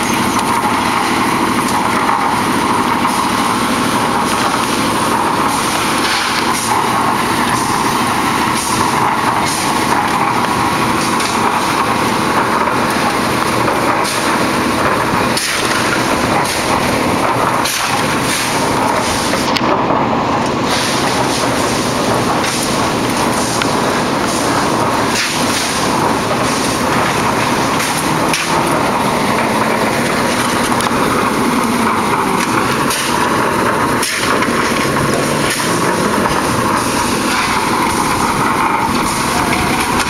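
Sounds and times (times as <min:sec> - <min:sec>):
concrete mixer engine running: 0:00.0 - 0:40.0.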